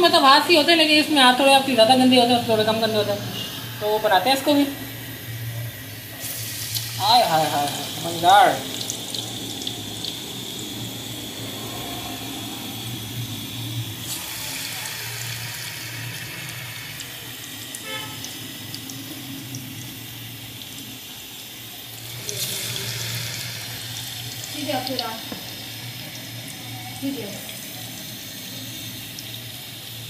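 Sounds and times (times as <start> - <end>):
food frying in hot oil: 0.0 - 30.0.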